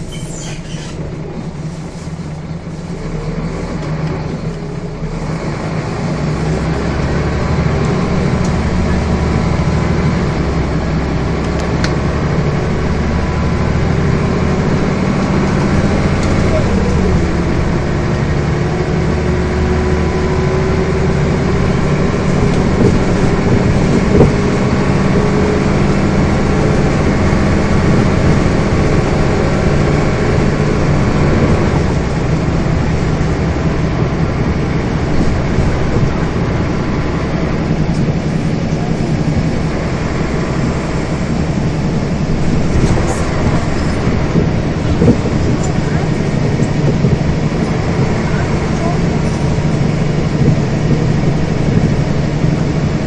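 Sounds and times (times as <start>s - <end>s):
bus diesel engine hum: 0.0s - 53.0s
road noise: 0.0s - 53.0s.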